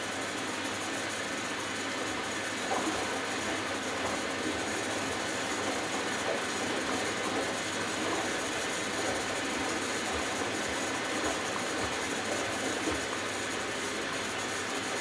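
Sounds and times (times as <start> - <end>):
water in turning washing machine drum: 1.8 - 15.0.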